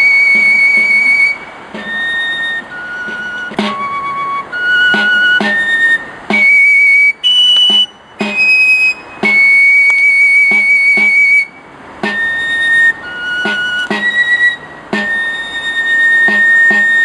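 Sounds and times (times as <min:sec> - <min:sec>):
drum strokes: 0:00.0 - 0:17.0
pipe playing slow melody: 0:00.0 - 0:17.0.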